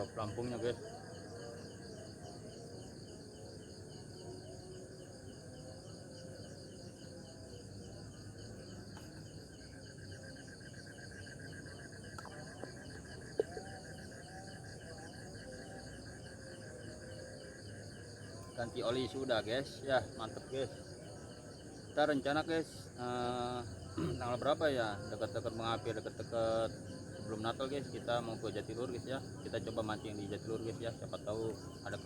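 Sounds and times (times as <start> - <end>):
crickets chirping: 0.0 - 32.0
lower-pitched cricket trill: 0.0 - 32.0.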